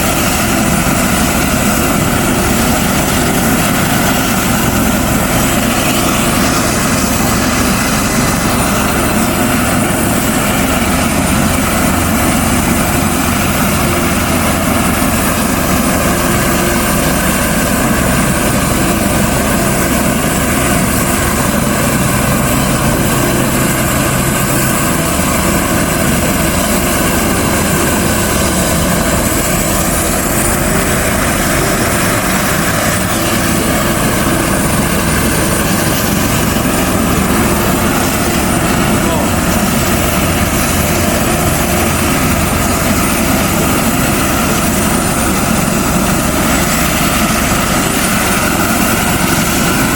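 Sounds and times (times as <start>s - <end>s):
helicopter turbine and rotors: 0.0s - 49.9s.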